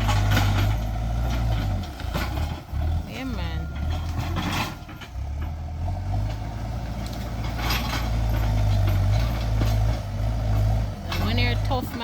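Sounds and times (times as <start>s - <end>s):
heavy machine engine humming: 0.0s - 12.0s.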